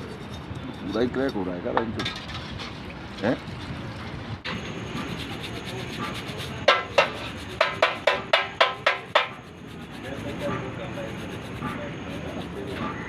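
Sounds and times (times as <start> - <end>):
metal scraping on metal: 0.0 - 3.6, 4.5 - 13.0.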